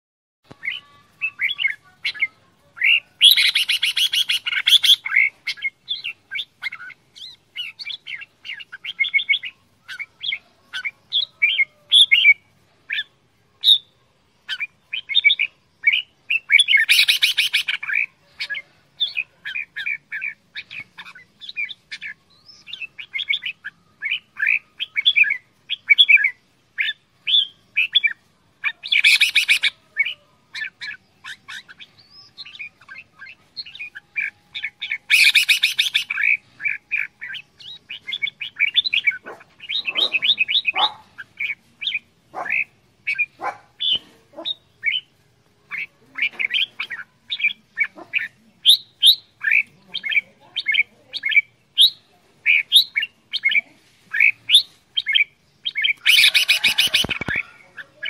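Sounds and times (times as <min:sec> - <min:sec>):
bird chirping notes: 0:00.4 - 0:58.0
harsh bird chattering: 0:00.6 - 0:13.8, 0:14.5 - 0:45.1, 0:45.7 - 0:58.0.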